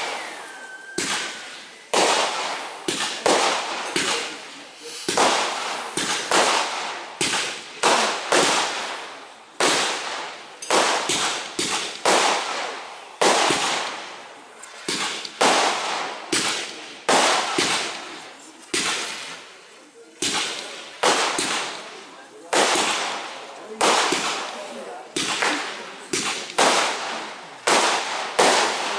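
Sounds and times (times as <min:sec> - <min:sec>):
fireworks banging: 0:00.0 - 0:28.9.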